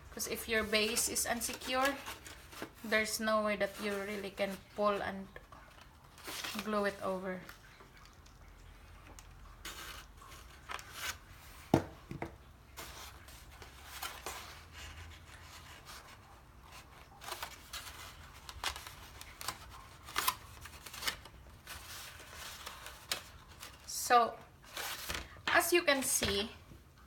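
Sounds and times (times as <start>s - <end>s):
paper rustling and crinkling: 0.3s - 8.3s, 9.0s - 12.1s, 12.7s - 26.5s.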